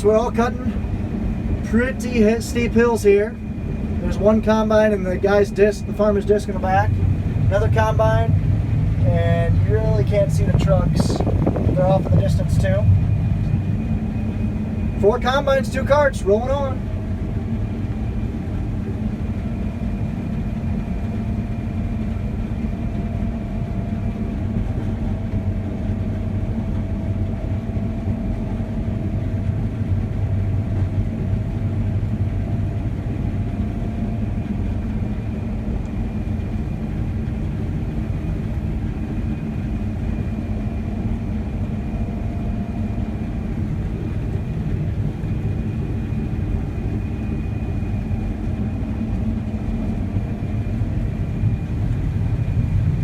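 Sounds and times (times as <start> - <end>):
combine harvester engine drone: 0.0 - 53.0
faint steady whine: 0.0 - 53.0.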